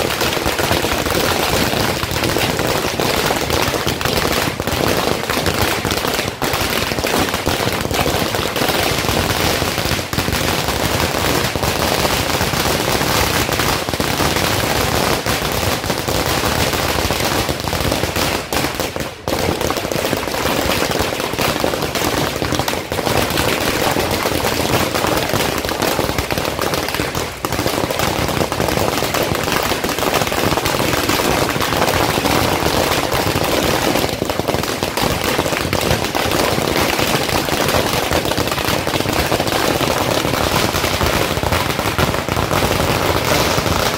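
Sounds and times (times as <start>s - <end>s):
firecrackers bursting: 0.0s - 43.9s.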